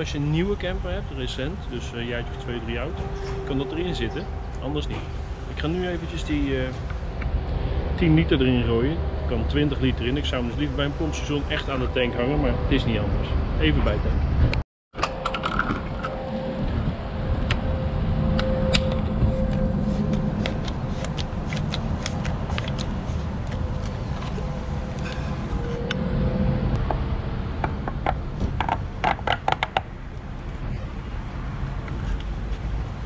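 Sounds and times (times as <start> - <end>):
steady low rumble: 0.0 - 29.1.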